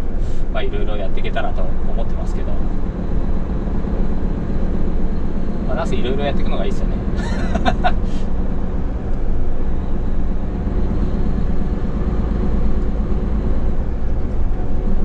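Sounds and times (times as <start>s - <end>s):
road noise: 0.0s - 15.0s
truck diesel engine droning: 0.0s - 15.0s.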